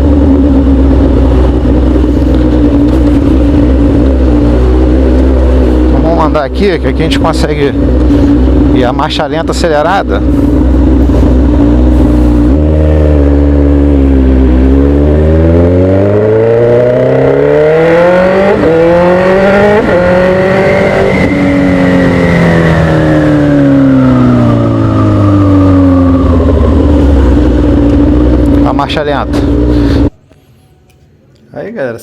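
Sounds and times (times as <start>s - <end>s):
motorcycle engine revving: 0.0s - 30.2s.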